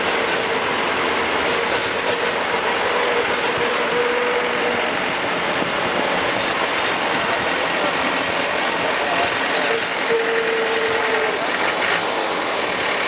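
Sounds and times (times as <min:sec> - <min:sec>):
road and drivetrain noise: 0:00.0 - 0:13.0.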